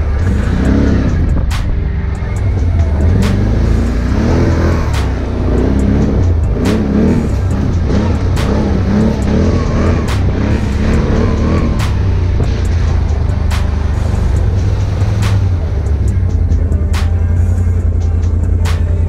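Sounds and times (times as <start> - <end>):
atv engine revving: 0.0 - 19.0
background music with beat: 0.0 - 19.0.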